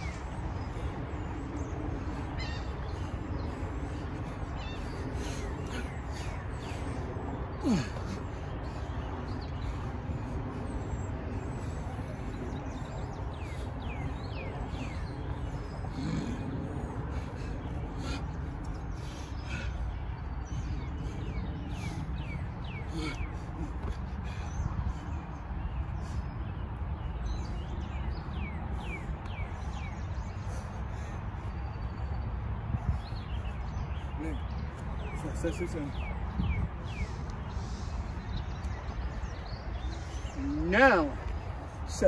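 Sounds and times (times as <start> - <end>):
bird chirping: 0.0 - 42.0
distant traffic rumble: 0.0 - 42.0.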